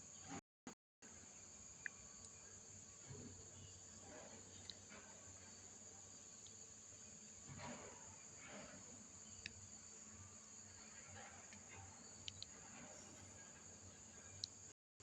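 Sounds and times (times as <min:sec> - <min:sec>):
crickets trilling: 0:01.1 - 0:14.7.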